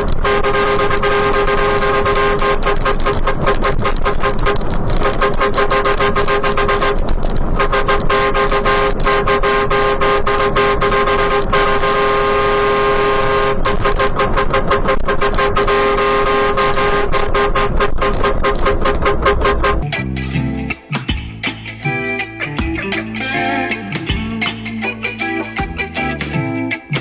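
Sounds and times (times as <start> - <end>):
two-note car horn: 0.2 - 27.0.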